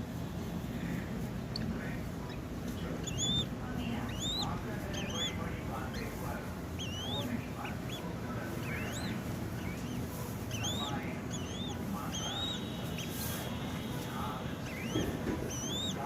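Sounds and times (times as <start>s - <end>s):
falcon chick begging calls: 2.3s - 16.0s.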